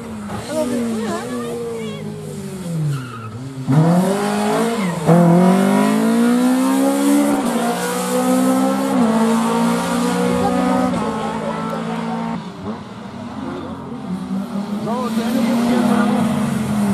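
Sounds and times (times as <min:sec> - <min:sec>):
rally car engine revving: 0:00.0 - 0:16.9.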